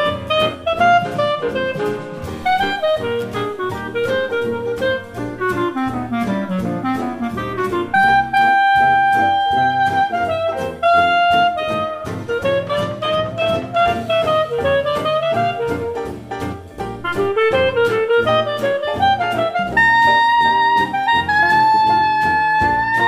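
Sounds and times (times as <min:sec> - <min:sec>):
melodic lead line: 0:00.0 - 0:23.0
steady drum beat: 0:00.0 - 0:23.0.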